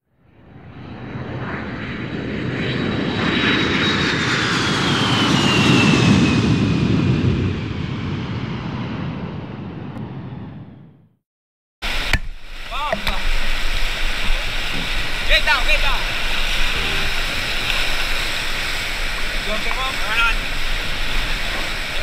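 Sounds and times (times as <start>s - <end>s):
airplane flying past: 0.2s - 11.0s, 13.3s - 22.0s.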